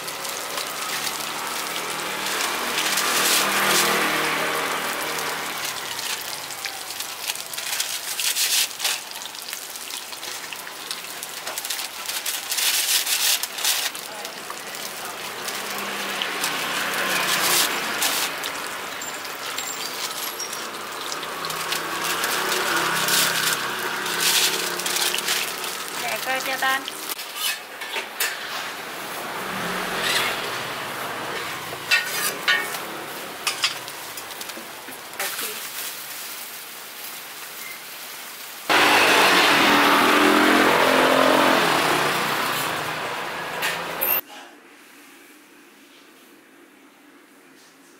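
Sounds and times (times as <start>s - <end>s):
food sizzling in hot oil: 0.0s - 44.2s.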